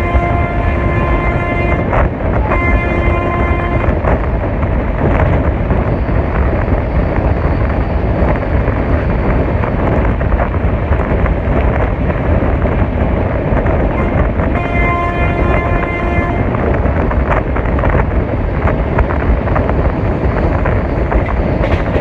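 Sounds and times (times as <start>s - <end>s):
train rumbling and rattling on track: 0.0s - 22.0s
wind noise on microphone: 0.0s - 22.0s.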